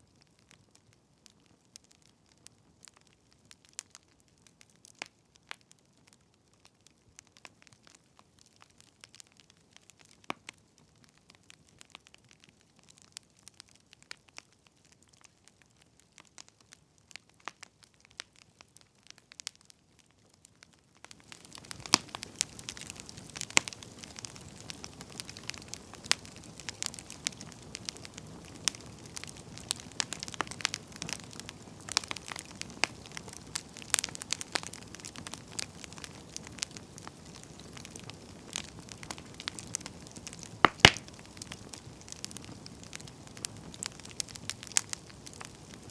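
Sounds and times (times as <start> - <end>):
steady hiss of fire: 0.0 - 45.9
campfire crackling and popping: 0.1 - 45.9.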